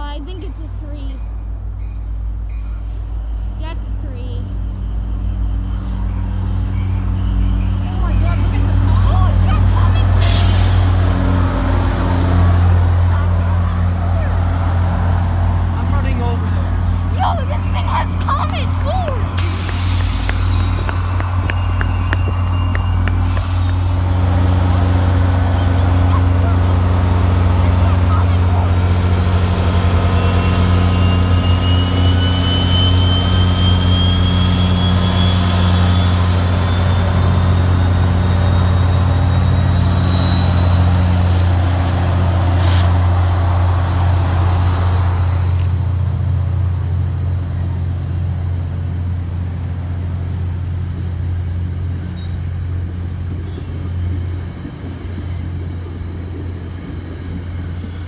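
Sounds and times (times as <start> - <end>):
train passing with low hum: 0.0 - 58.0.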